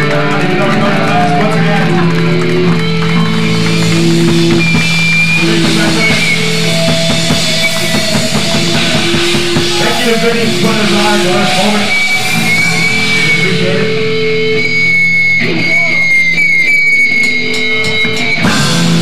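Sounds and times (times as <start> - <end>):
drum kit playing: 0.0 - 19.0
electric guitar notes: 0.0 - 19.0
rock music: 0.0 - 19.0.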